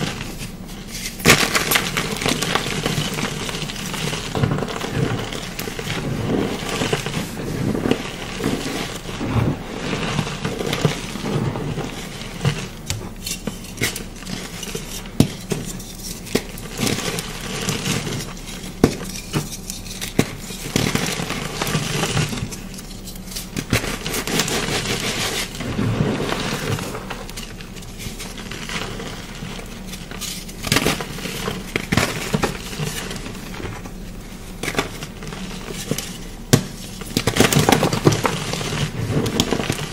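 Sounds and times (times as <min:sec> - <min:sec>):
chalk crumbling and cracking: 0:00.0 - 0:39.9.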